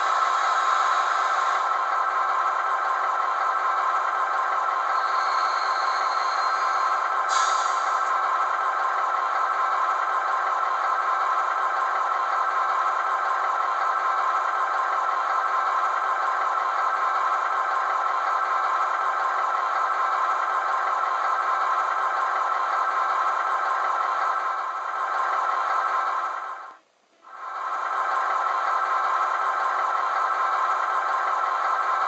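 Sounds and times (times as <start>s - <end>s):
diesel locomotive engine through small speaker: 0.0s - 32.0s.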